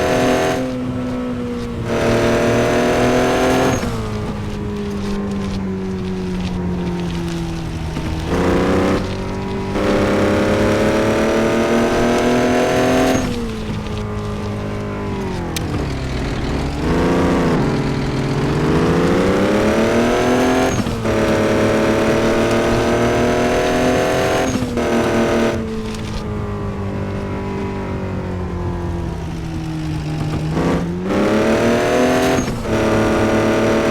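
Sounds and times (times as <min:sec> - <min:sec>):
truck engine accelerating: 0:00.0 - 0:33.9.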